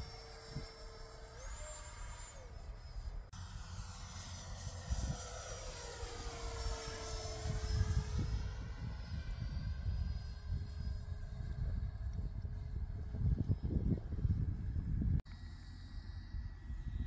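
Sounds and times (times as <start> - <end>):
wind rumble on microphone: 0.0 - 3.3, 4.0 - 17.0
electric ducted fan whining: 0.0 - 17.0.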